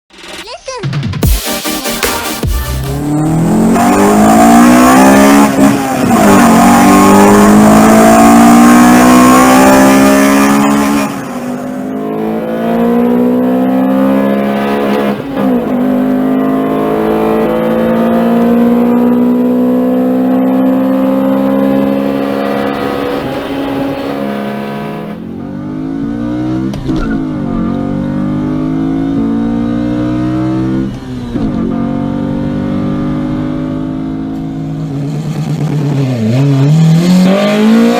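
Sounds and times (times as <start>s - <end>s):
car engine accelerating: 2.5s - 37.9s.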